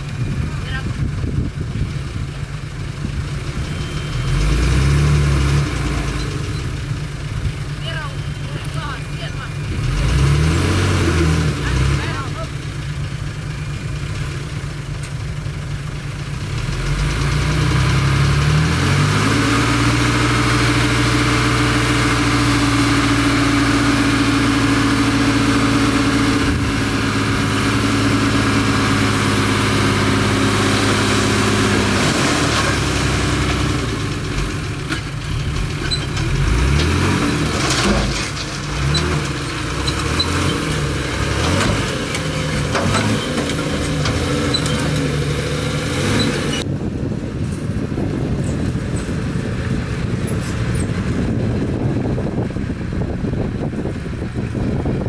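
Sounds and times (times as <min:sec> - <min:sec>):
bulldozer engine revving: 0:00.0 - 0:55.0.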